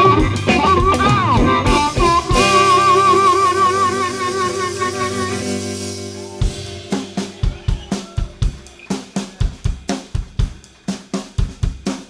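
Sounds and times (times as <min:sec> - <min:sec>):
drum kit playing a steady beat: 0:00.0 - 0:12.0
snare and cymbal hits: 0:00.0 - 0:12.0.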